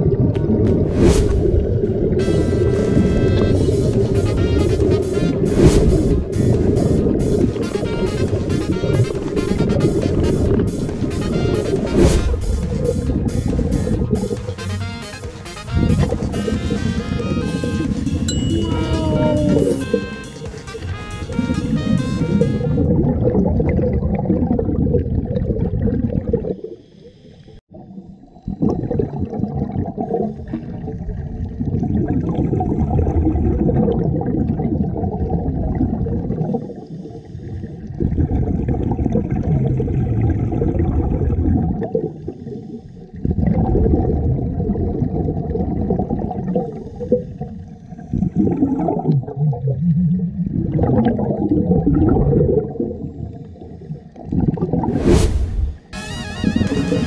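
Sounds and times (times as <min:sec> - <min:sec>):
underwater regulator bubbling: 0:00.0 - 0:20.5, 0:21.2 - 0:26.8, 0:27.7 - 0:57.0.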